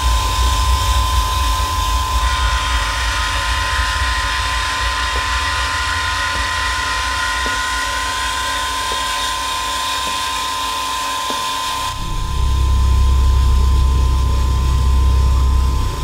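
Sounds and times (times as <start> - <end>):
droning hum with high whine: 0.0 - 16.0.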